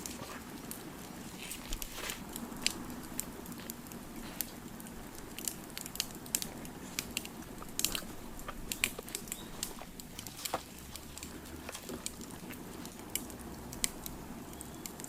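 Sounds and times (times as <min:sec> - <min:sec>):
low steady rush: 0:00.0 - 0:15.0
wood fire crackling: 0:00.0 - 0:15.0.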